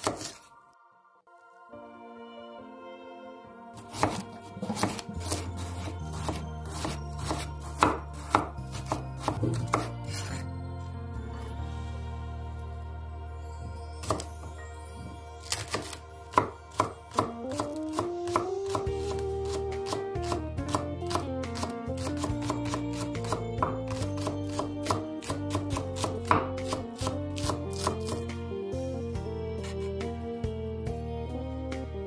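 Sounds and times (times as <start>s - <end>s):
soft background music: 0.0s - 32.0s.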